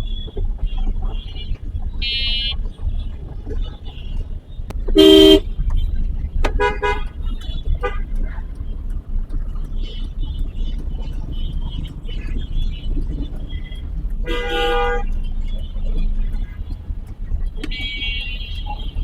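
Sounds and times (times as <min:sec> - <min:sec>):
car horns tooting: 0:00.0 - 0:19.0
road and engine rumble: 0:00.0 - 0:19.0.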